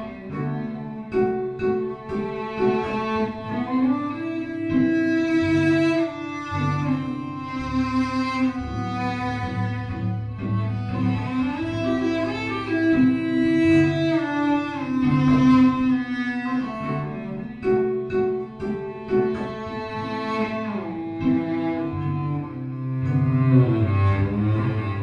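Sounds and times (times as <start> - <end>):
bowed cello: 0.0 - 25.0.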